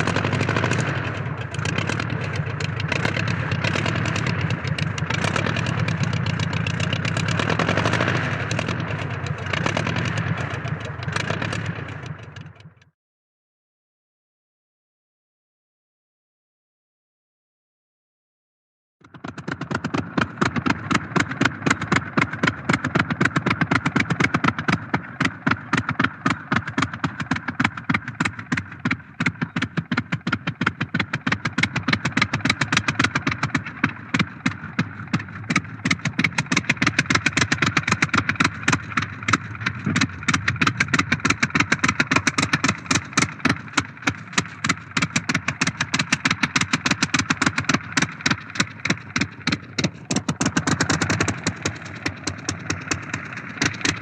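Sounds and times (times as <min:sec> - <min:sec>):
propeller airplane engine: 0:00.0 - 0:12.9, 0:19.0 - 0:54.0.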